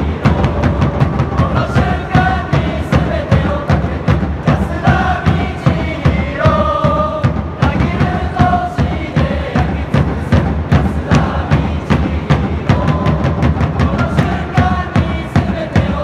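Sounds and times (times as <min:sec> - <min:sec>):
crowd chanting in unison: 0:00.0 - 0:16.0
steady drum beat: 0:00.0 - 0:16.0.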